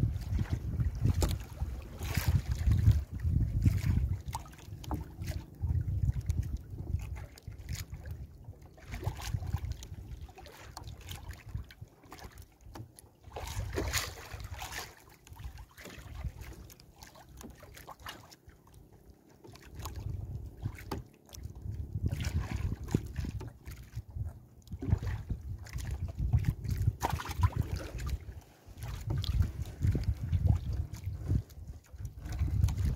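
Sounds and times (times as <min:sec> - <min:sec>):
wind rumble on microphone: 0:00.0 - 0:16.7, 0:18.8 - 0:32.9.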